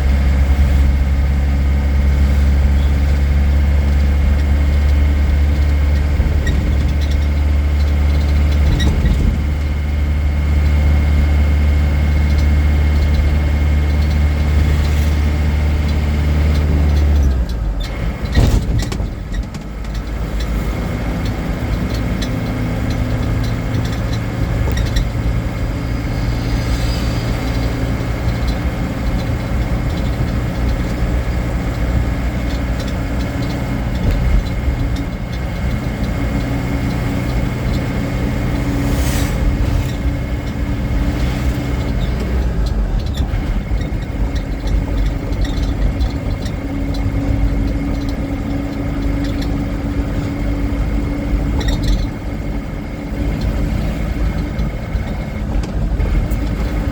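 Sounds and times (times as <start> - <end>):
vehicle engine low hum: 0.0 - 56.9.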